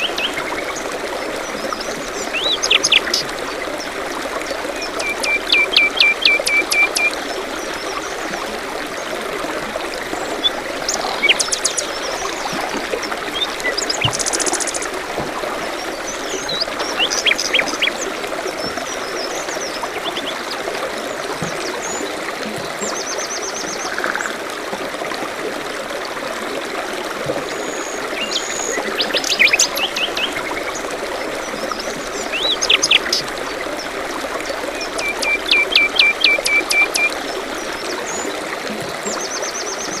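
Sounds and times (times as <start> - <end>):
songbirds calling: 0.0 - 22.2, 27.5 - 40.0
small stream trickling: 0.0 - 40.0.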